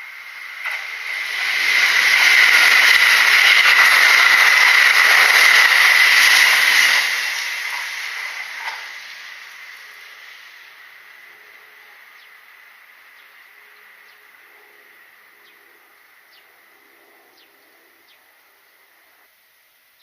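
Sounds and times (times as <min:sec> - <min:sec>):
electric train passing: 0:00.0 - 0:19.3.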